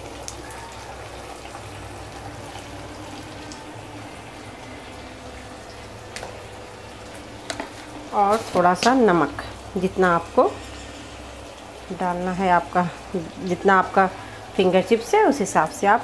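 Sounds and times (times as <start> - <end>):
soft frying sizzle: 0.0 - 16.0.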